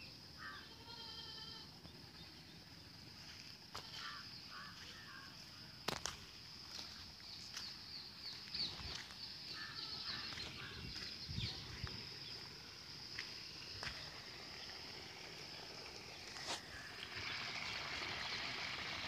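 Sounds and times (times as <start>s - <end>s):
birds chirping: 1.6s - 5.8s, 6.6s - 19.0s.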